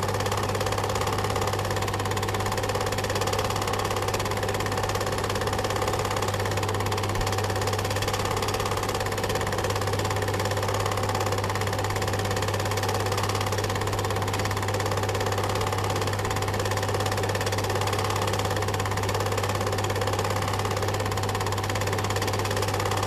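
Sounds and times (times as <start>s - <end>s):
film projector clatter: 0.0s - 23.0s.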